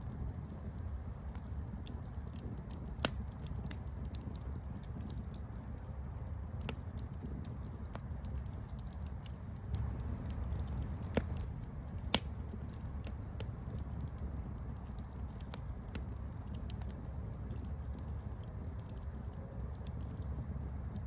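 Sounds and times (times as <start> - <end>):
burning wood crackling and popping: 0.0 - 21.0
rumble of campfire flames: 0.0 - 21.0.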